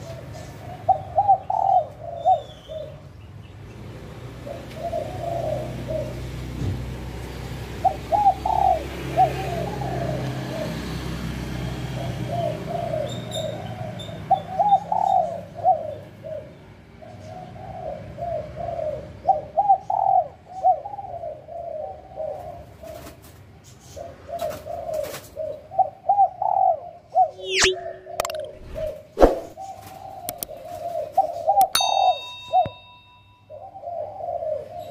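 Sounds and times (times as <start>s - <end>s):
dove cooing: 0.0s - 3.0s, 4.4s - 6.4s, 7.7s - 10.8s, 12.0s - 23.2s, 24.0s - 31.9s, 33.5s - 34.9s.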